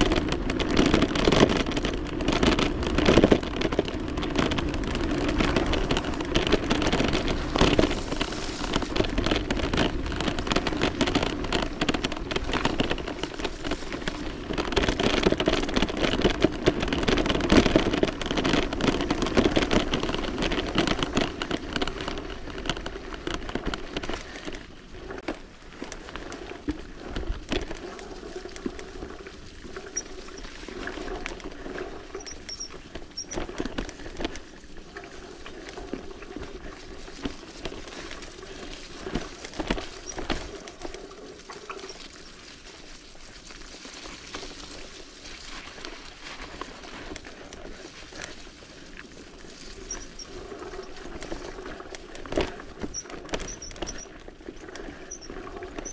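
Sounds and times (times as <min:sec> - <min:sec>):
bike tyres crackling on mud: 0:00.0 - 0:55.9.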